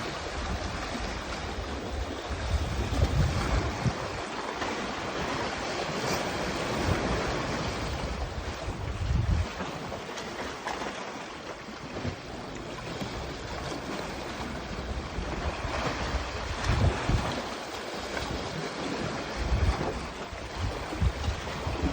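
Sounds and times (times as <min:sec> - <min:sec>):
wind buffeting microphone: 0:00.0 - 0:10.9, 0:11.6 - 0:21.9
sea surf rushing: 0:00.0 - 0:21.9.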